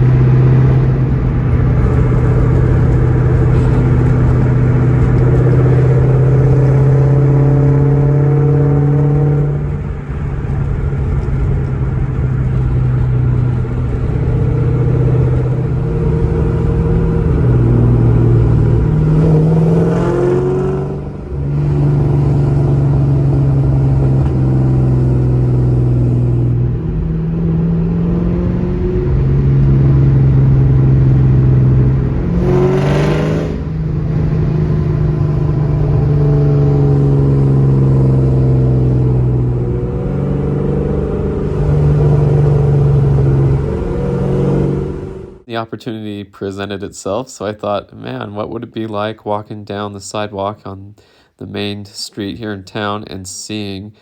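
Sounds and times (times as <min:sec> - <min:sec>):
car engine droning: 0:00.0 - 0:45.5.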